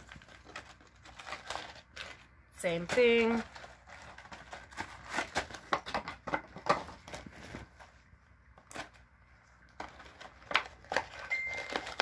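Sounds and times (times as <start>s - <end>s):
packaging clicks and rustles: 0.0s - 8.0s, 8.6s - 12.0s.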